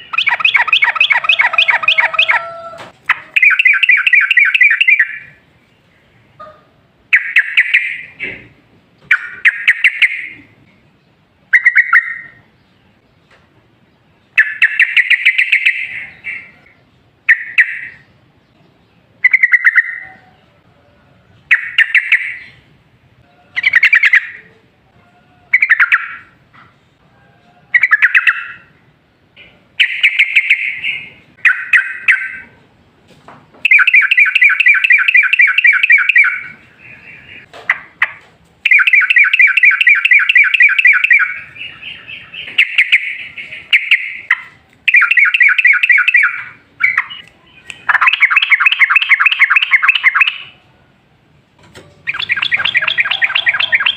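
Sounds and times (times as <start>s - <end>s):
bird singing chattering phrases: 0.0s - 6.5s, 7.1s - 13.3s, 14.3s - 20.6s, 23.6s - 24.6s, 27.8s - 32.6s, 33.7s - 50.6s, 52.0s - 53.9s.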